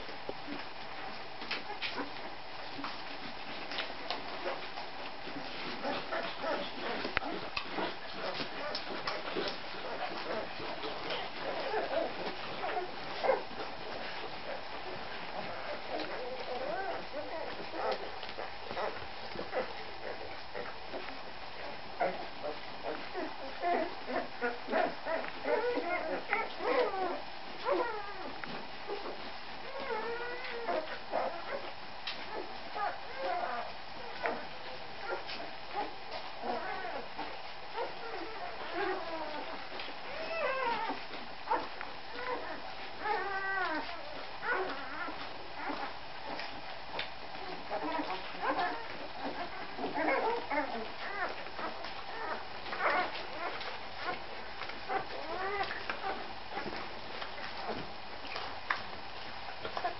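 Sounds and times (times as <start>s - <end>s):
puppies squeaking and whimpering: 0.5s - 31.7s, 32.3s - 59.0s, 59.6s - 59.9s.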